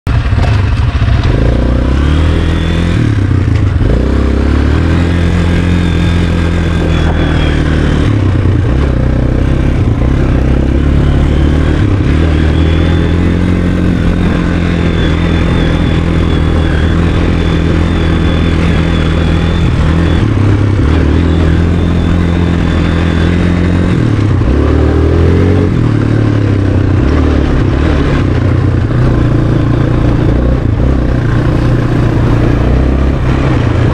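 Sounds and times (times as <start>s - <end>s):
quad engine running: 0.0s - 33.9s.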